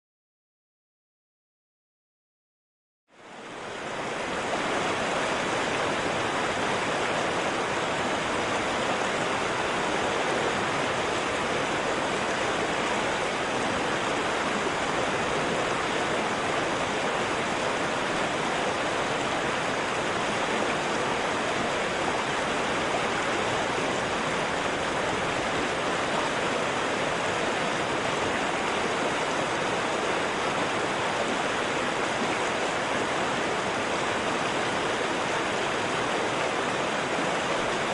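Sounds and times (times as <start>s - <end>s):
river water flowing over rocks: 3.1s - 37.9s.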